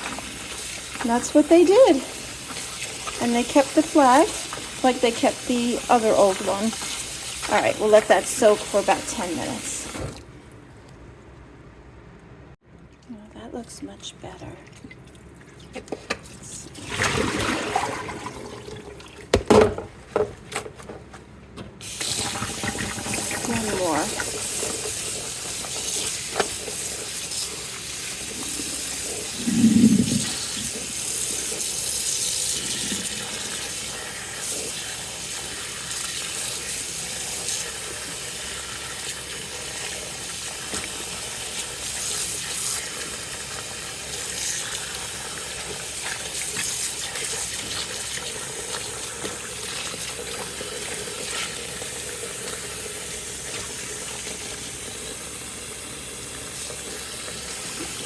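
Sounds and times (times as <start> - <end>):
tap water running into basin: 0.0 - 10.3, 14.6 - 20.7, 21.8 - 58.0.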